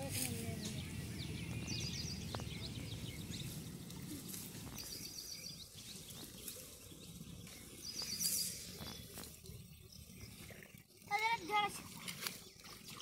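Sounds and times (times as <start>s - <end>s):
low outdoor rumble: 0.0s - 10.6s
birds chirping: 0.0s - 13.0s.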